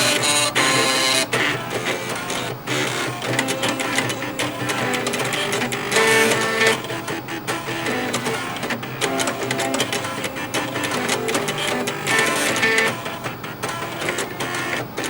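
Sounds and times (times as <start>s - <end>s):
floppy drive motors playing melody: 0.0s - 15.0s
rapid clicking of drive heads: 0.0s - 15.0s.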